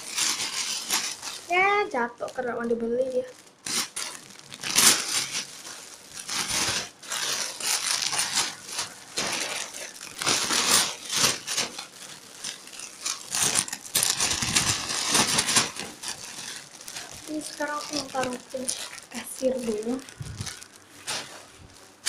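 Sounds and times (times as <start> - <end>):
plastic bags crinkling: 0.0 - 22.0.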